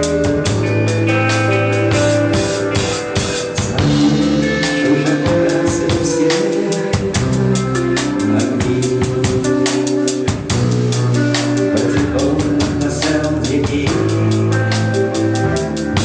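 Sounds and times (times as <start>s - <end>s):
bass guitar: 0.0s - 16.0s
drum kit beat: 0.0s - 16.0s
electric guitar: 0.0s - 16.0s.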